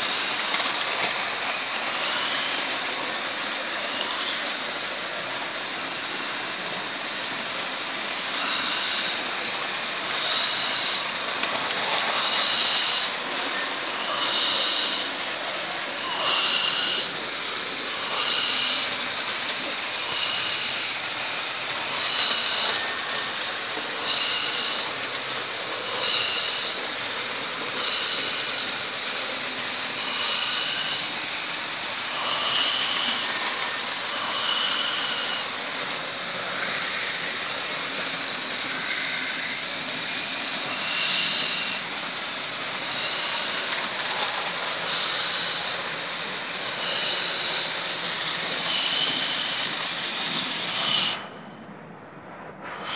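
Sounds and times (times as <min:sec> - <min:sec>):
model train motors whirring: 0:00.0 - 0:51.7, 0:52.7 - 0:52.9.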